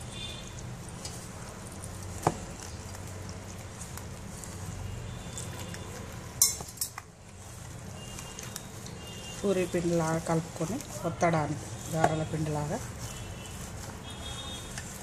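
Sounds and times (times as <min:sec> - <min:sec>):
dough mixed by hand in bowl: 0:00.0 - 0:15.0.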